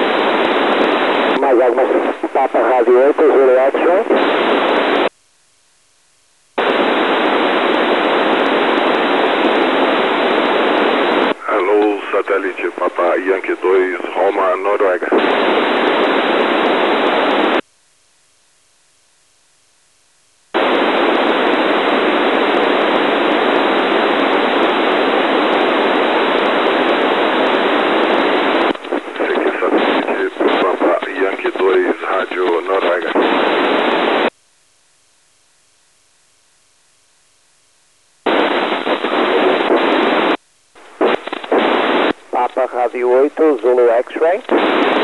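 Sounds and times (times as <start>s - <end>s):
radio static hiss: 0.0s - 5.2s, 6.3s - 17.7s, 20.3s - 34.4s, 37.3s - 45.0s.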